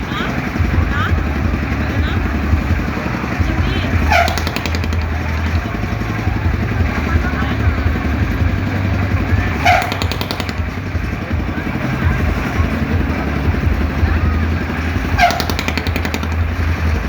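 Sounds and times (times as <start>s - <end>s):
ride machinery engine drone: 0.0s - 17.0s
brief rattling burst: 1.3s - 17.0s.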